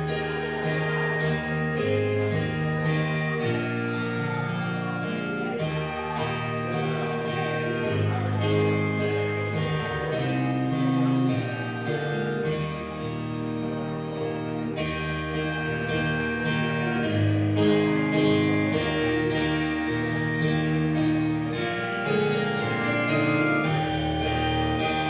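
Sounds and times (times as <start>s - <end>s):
guitar playing held chords: 0.0s - 25.0s.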